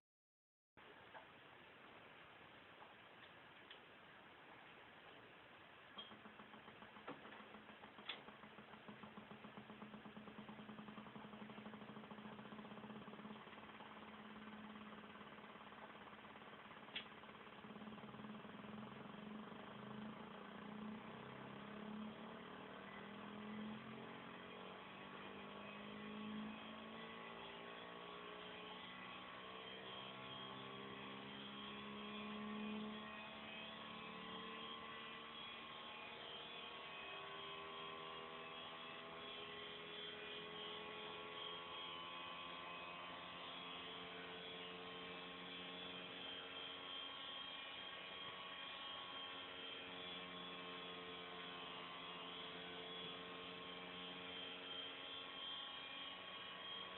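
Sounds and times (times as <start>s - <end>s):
electric motor humming: 6.0s - 55.5s.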